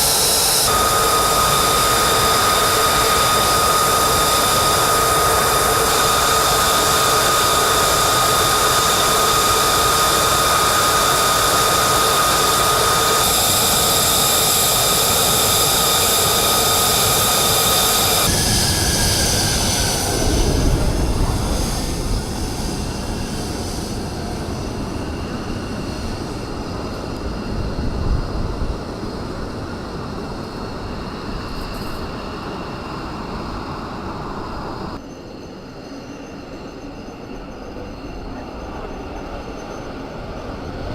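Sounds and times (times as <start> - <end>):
jet engine turbine whine: 0.0 - 40.9.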